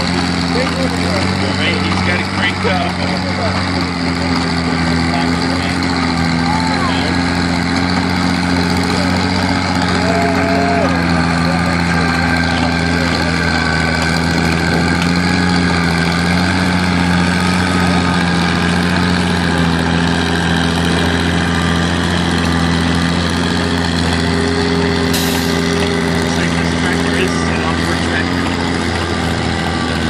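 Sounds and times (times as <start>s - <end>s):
tractor engine at high revs: 0.0s - 30.0s.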